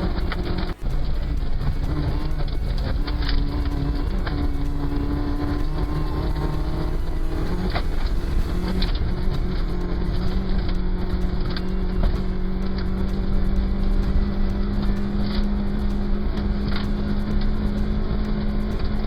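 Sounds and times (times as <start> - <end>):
rally car engine running: 0.0 - 19.0.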